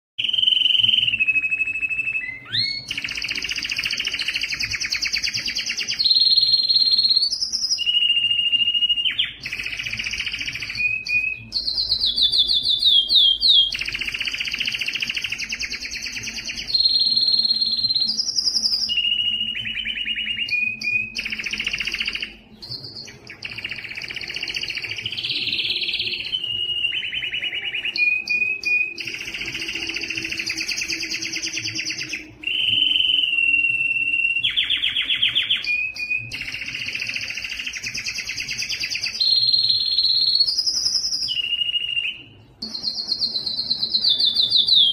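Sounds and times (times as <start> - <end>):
canary singing trills: 0.2 - 44.9.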